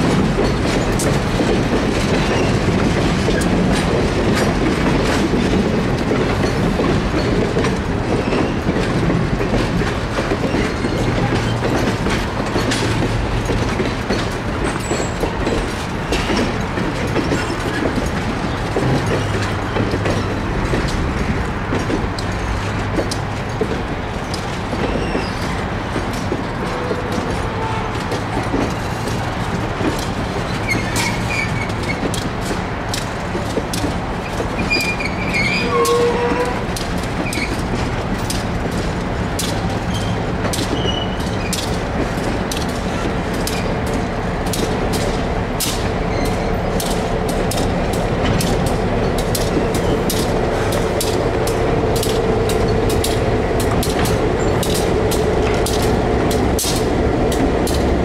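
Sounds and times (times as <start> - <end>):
train rumble and hum: 0.0 - 58.0
wheels clicking over rail joints: 0.0 - 58.0.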